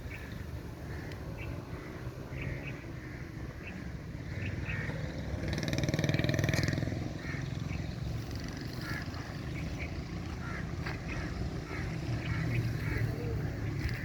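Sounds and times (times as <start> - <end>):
motor vehicle engine: 0.0 - 14.0.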